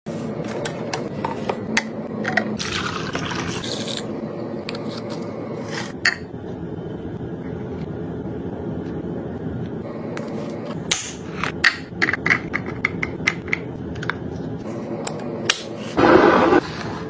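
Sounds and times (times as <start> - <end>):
steady low hum: 0.1 - 17.0.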